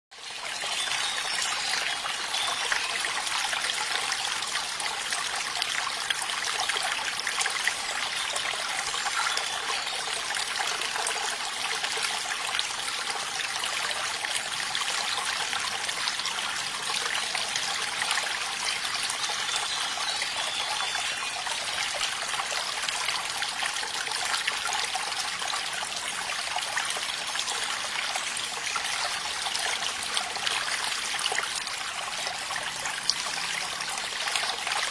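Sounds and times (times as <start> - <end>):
water trickling: 0.2 - 34.9.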